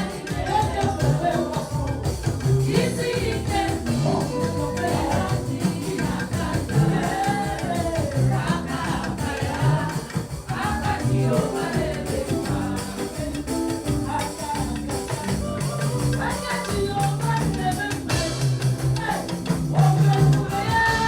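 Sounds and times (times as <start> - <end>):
gospel singing over a band: 0.0 - 21.0.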